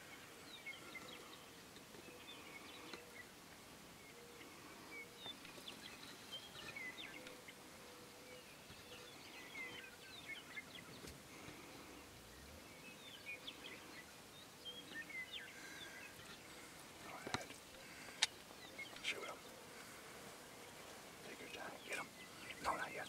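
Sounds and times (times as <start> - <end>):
faint steady hum: 0.0 - 23.0
songbirds chirping and whistling: 0.0 - 23.0.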